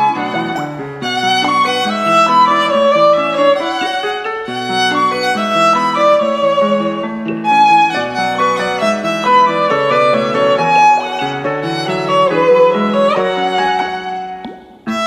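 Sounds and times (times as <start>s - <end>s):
violin melody: 0.0s - 15.0s.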